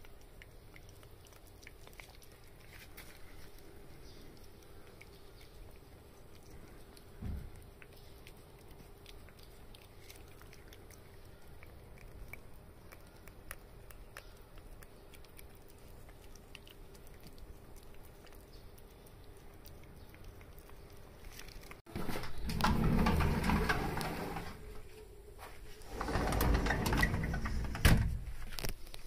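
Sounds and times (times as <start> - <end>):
cats licking and lapping: 0.0 - 25.9.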